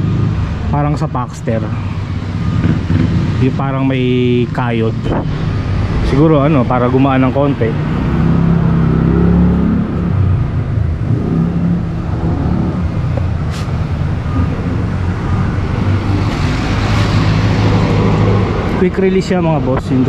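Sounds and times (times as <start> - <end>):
low vehicle engine hum: 0.0 - 20.0.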